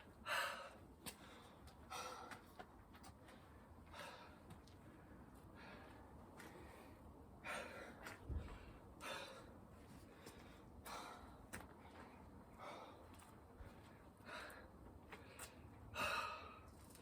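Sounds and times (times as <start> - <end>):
person breathing hard: 0.2 - 16.8.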